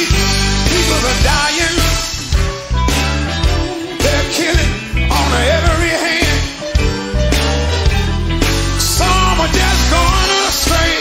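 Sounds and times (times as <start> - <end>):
song with rhythmic bass line: 0.0 - 11.0.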